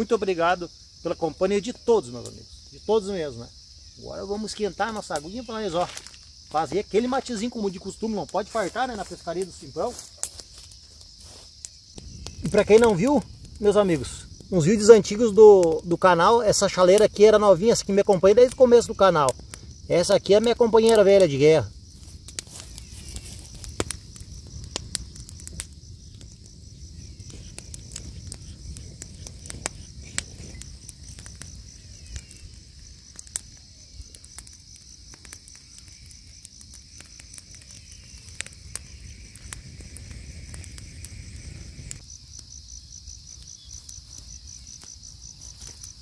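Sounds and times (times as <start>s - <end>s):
insects trilling: 0.0s - 46.0s.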